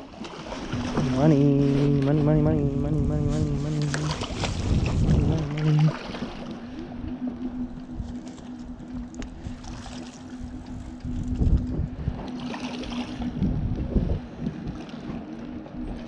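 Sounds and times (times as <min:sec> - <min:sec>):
water splashing: 0:00.0 - 0:13.6
steady low hum: 0:00.0 - 0:16.0
wind buffeting microphone: 0:00.7 - 0:16.0.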